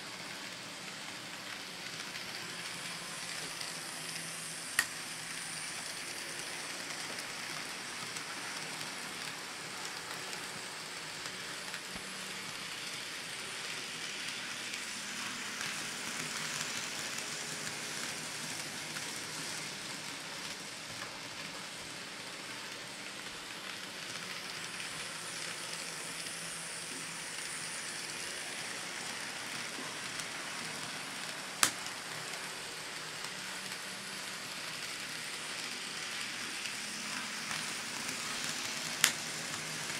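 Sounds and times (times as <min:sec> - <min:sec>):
model train wheels whirring: 0:00.0 - 0:39.9.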